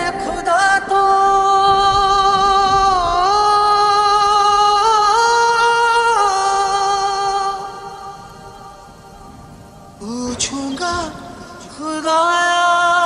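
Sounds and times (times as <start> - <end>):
music: 0.0 - 13.0
person singing a long note: 0.0 - 13.0.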